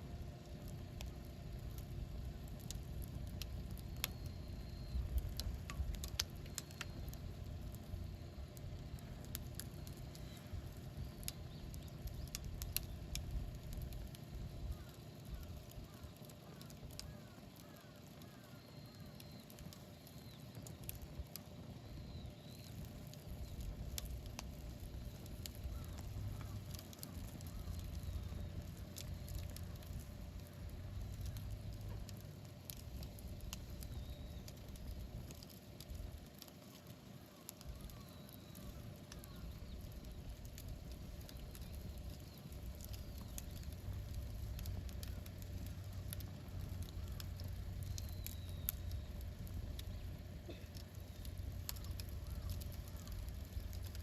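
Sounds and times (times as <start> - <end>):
campfire crackling and popping: 0.0 - 54.0
low fire rumble: 0.0 - 54.0.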